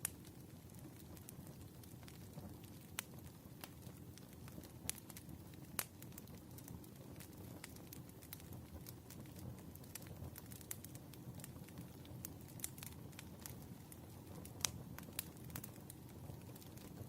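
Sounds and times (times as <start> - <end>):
low rumble of burning logs: 0.0 - 17.0
wood fire crackling and popping: 0.0 - 17.0.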